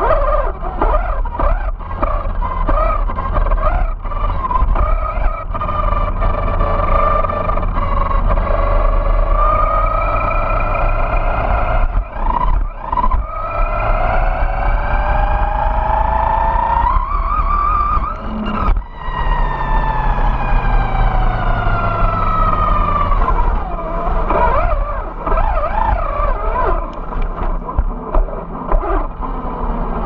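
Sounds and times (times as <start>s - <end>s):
electric motor and gears whining: 0.0s - 30.0s
tyre noise on asphalt: 0.0s - 30.0s.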